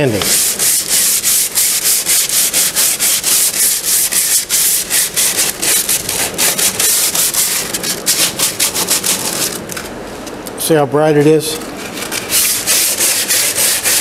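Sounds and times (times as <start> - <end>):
sandpaper rubbing back and forth: 0.2 - 9.6, 11.8 - 14.0.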